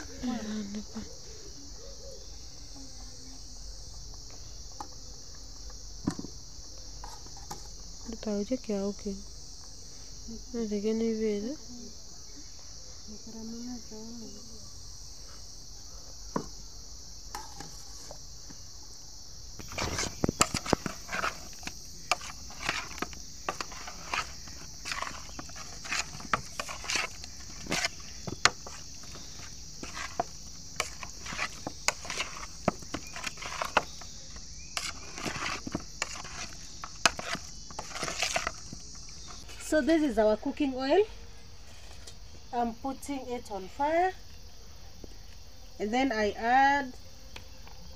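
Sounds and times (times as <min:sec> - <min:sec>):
crickets chirring: 0:00.0 - 0:47.9.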